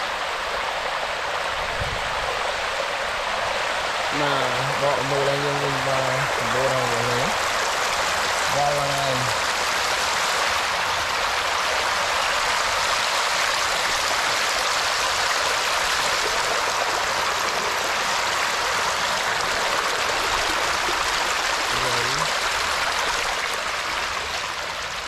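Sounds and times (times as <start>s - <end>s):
water flowing: 0.0s - 25.0s.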